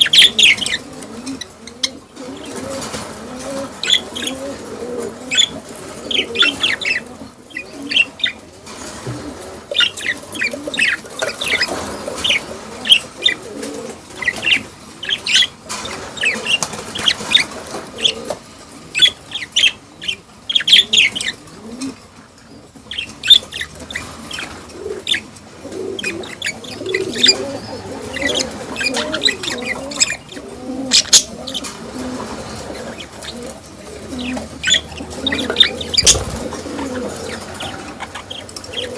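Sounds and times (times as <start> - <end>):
budgerigars chirping and chattering: 0.0 - 4.7, 5.3 - 8.4, 9.0 - 13.5, 14.1 - 21.9, 22.5 - 38.9.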